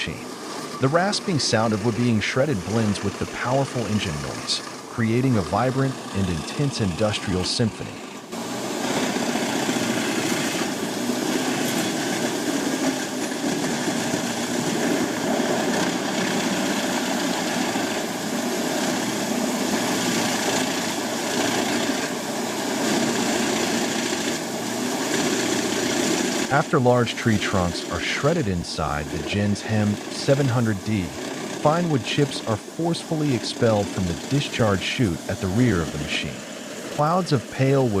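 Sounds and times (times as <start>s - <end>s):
wood chipper engine: 0.0s - 38.0s.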